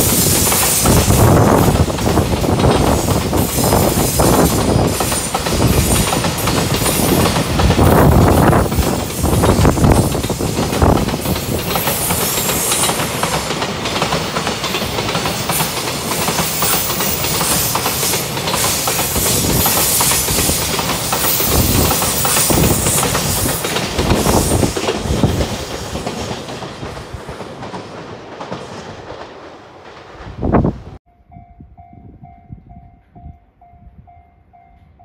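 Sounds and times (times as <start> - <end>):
freight train wheels clacking: 0.0 - 31.0.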